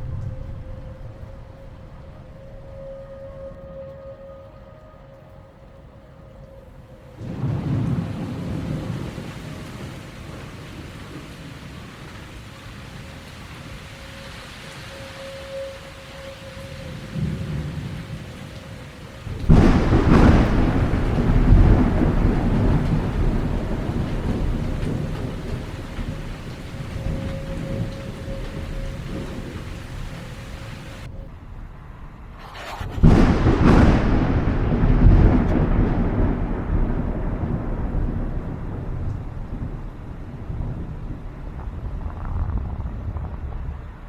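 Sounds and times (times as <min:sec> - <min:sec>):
thunder clap: 0:00.0 - 0:04.1, 0:07.1 - 0:44.0
steady rain: 0:00.0 - 0:44.0
thunder rumbling: 0:00.0 - 0:44.0.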